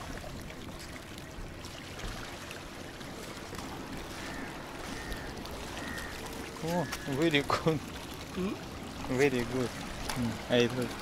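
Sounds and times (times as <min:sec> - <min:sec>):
small waves on rocky shore: 0:00.0 - 0:11.0.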